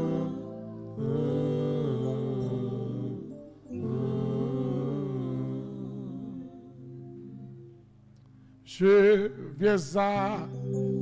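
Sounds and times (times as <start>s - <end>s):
soft worship music: 0.0s - 11.0s.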